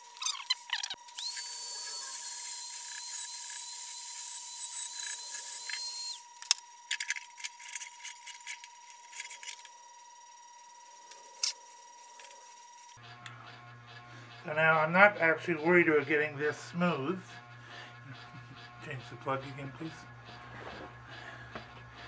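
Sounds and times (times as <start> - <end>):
rotary tool grinding metal: 0.0 - 22.0.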